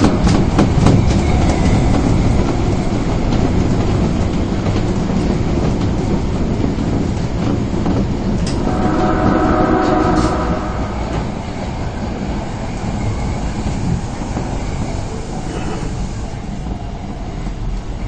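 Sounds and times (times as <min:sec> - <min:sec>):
rail clicks: 0:00.0 - 0:18.0
subway train wheels rumbling: 0:00.0 - 0:18.0.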